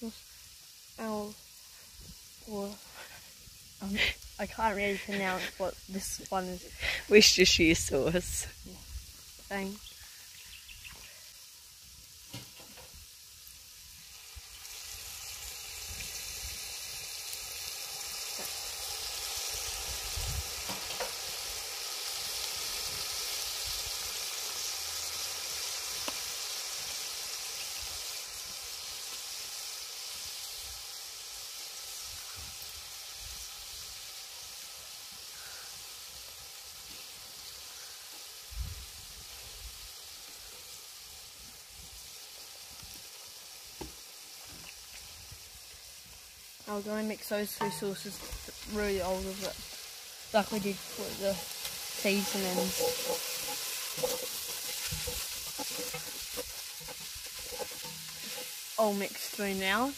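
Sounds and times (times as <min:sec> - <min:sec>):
meat sizzling in a pot: 0:00.0 - 0:59.9.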